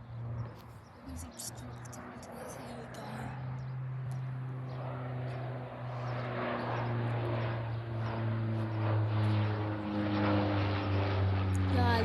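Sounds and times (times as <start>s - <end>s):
propeller plane droning past: 0.0s - 12.0s.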